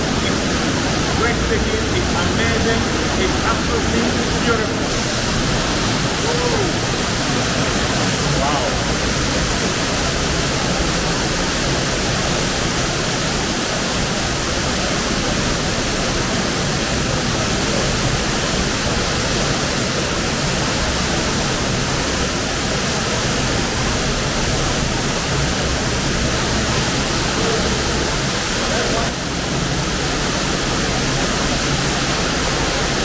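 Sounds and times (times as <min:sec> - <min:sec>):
waterfall rushing into pool: 0:00.0 - 0:33.0.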